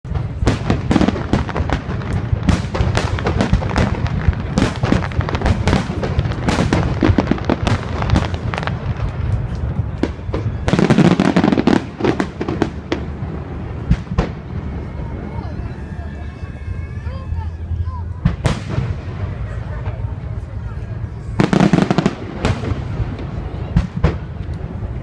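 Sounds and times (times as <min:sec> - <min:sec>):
fireworks bangs and crackles: 0:00.1 - 0:15.9, 0:17.9 - 0:25.0.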